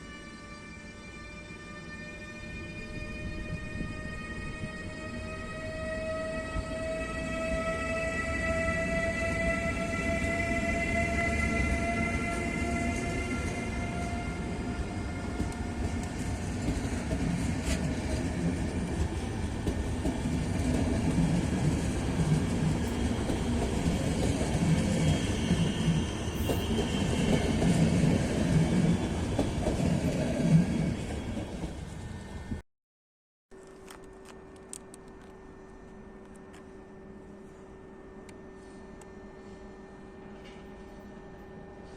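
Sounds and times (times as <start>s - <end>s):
electric locomotive whine: 0.0s - 32.6s, 33.6s - 41.9s.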